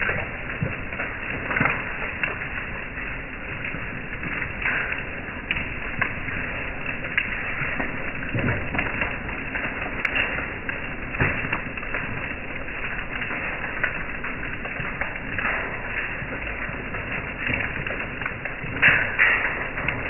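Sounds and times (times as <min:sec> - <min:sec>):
hailstones ticking on boards: 0:00.0 - 0:20.0
rain hissing: 0:00.0 - 0:20.0.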